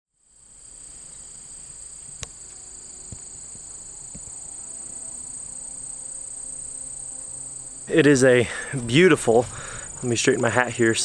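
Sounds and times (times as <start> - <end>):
high-pitched insect chorus: 0.2 - 11.0.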